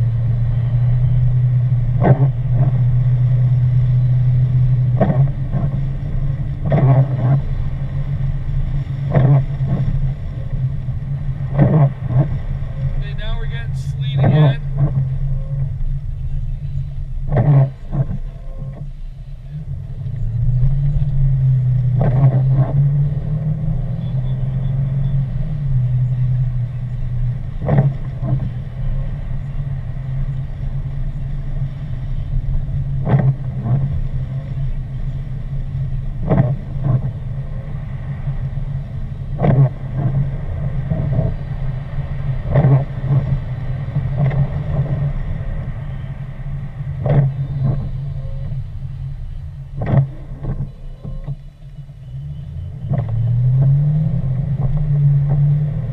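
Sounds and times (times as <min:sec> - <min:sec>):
car engine and tyres humming: 0:00.0 - 0:55.9.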